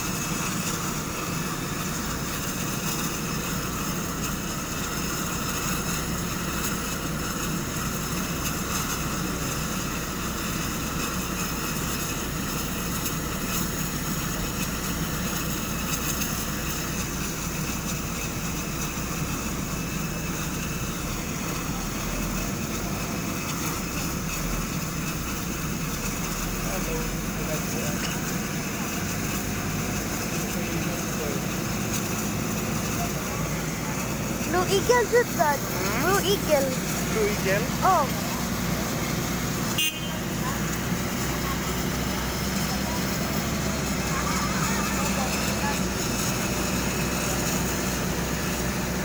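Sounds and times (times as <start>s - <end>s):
turboprop engine idling: 0.0s - 49.0s.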